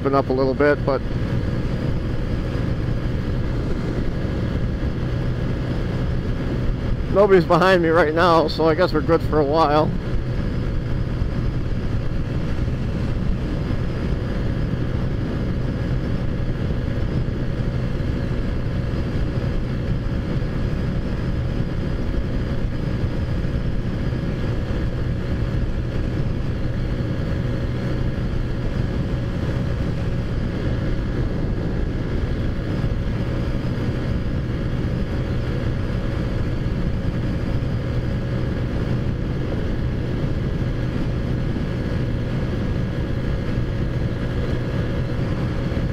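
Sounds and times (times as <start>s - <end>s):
scooter engine cruising: 0.0s - 45.9s
wind rushing over microphone: 0.0s - 45.9s.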